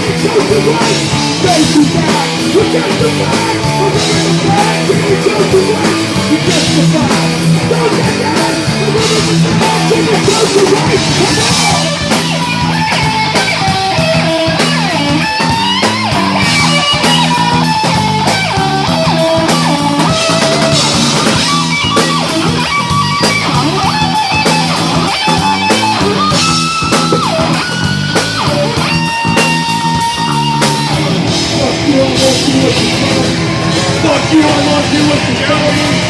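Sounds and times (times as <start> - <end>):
bass guitar: 0.0 - 36.0
drum kit: 0.0 - 36.0
electric guitar lead bending notes: 0.0 - 36.0.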